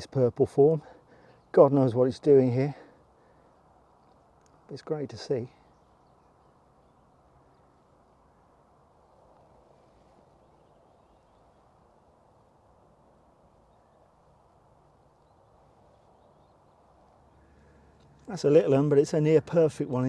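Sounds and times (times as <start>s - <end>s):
faint distant bird calls: 0.0s - 20.0s.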